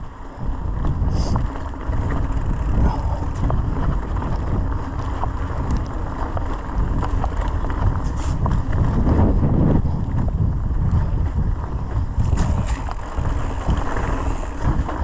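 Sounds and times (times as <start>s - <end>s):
bike rattles and clicks: 0.0s - 15.0s
tyres rumbling on dirt: 0.0s - 15.0s
wind buffeting microphone: 0.0s - 15.0s.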